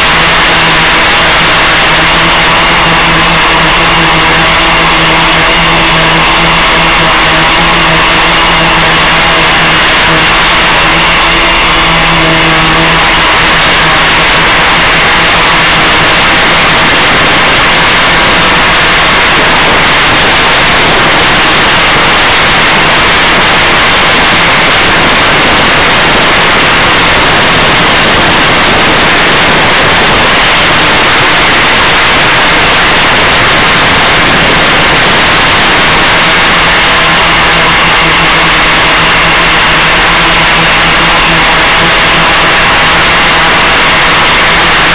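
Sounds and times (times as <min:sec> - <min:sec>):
loud steady hiss: 0:00.0 - 0:44.9.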